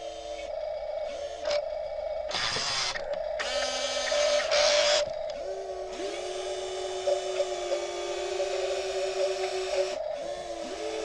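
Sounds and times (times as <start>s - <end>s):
steady high hum: 0.0s - 11.0s
toy electric motors whining: 0.0s - 11.0s.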